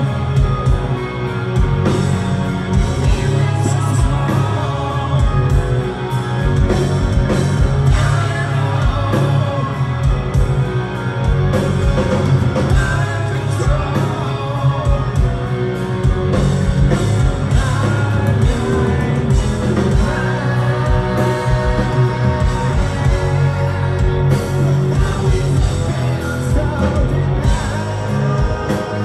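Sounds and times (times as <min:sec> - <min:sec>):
live rock band playing: 0:00.0 - 0:29.0
man singing: 0:02.7 - 0:10.6, 0:12.6 - 0:29.0.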